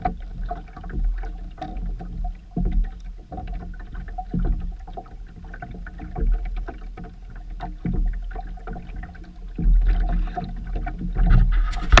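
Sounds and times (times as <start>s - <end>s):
low surging rumble: 0.0s - 12.0s
small knocks and splashes: 0.0s - 12.0s
water slapping along hull: 0.0s - 12.0s.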